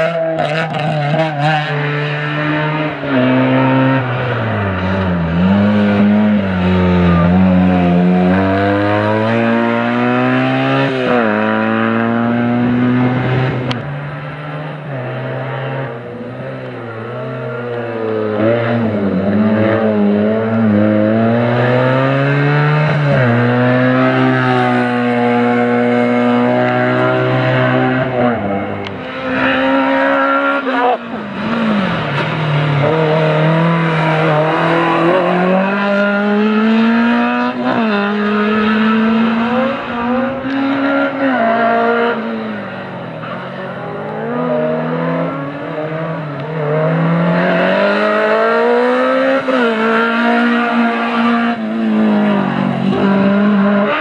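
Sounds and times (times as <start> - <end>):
small car engine revving: 0.0 - 16.3, 16.9 - 43.0, 43.8 - 54.0
rally car engine revving: 0.0 - 54.0.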